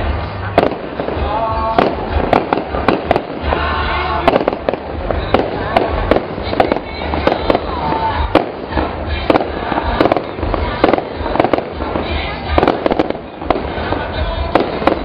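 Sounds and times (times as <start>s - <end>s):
fireworks bursting with bangs: 0.0s - 15.0s
low rumble: 0.0s - 15.0s.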